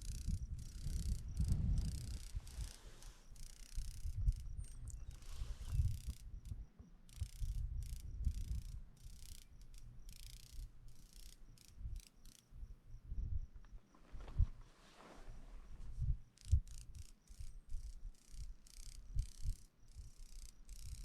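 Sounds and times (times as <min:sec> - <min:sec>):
wind rumble on microphone: 0:00.0 - 0:10.7, 0:11.6 - 0:21.0.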